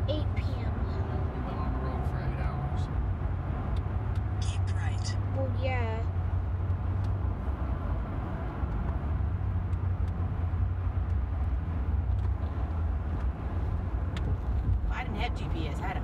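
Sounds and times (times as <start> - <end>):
car driving on highway: 0.0 - 16.0.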